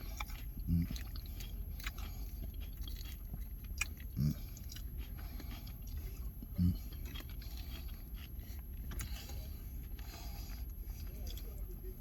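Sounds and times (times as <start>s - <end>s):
close chewing with crunches: 0.0s - 12.0s.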